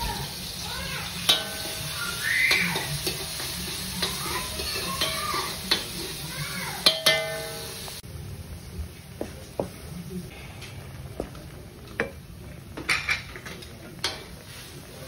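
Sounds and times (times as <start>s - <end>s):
food sizzling in a wok: 0.0s - 10.3s, 11.1s - 15.0s.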